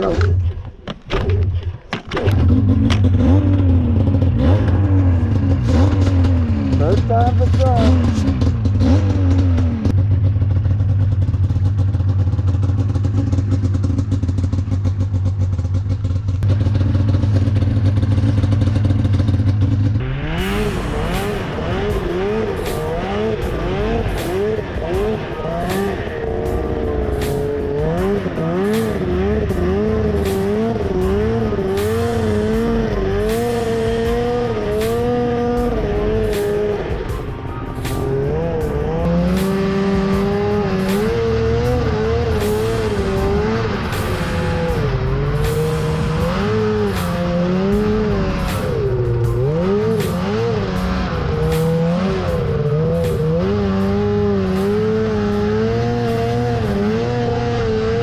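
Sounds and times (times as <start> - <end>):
snowmobile engine running hard: 2.3 - 58.0.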